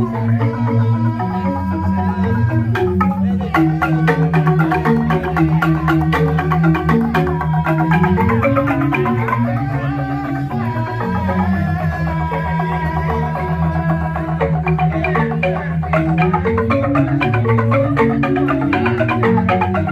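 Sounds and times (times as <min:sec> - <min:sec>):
bamboo xylophone mallet strikes: 0:00.0 - 0:19.9.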